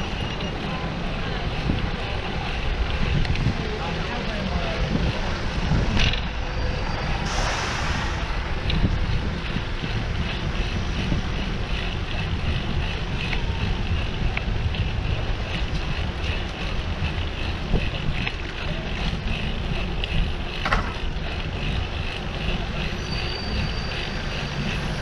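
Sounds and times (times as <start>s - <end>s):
road and traffic noise: 0.0s - 25.0s
wind buffeting microphone: 0.0s - 25.0s.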